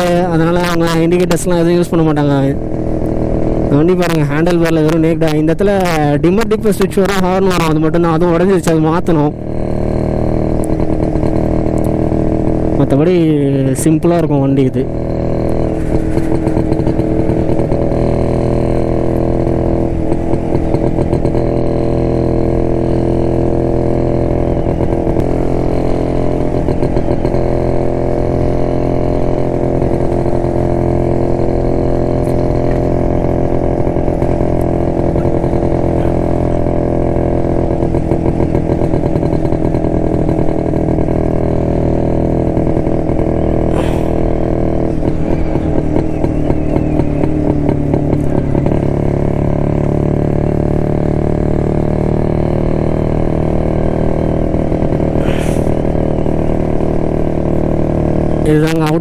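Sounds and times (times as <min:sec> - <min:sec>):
two-stroke motorcycle engine running: 0:00.0 - 0:59.0.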